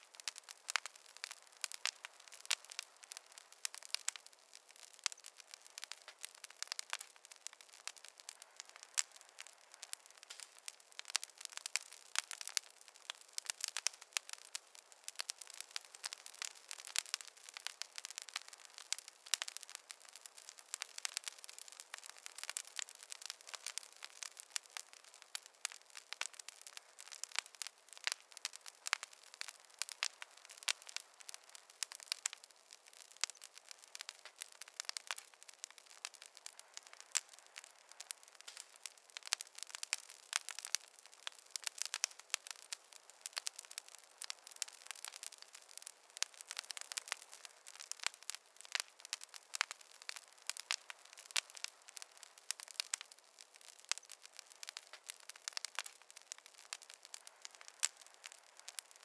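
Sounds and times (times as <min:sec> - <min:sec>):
soft fire hiss: 0:00.0 - 0:59.0
wood fire crackling: 0:00.0 - 0:59.0.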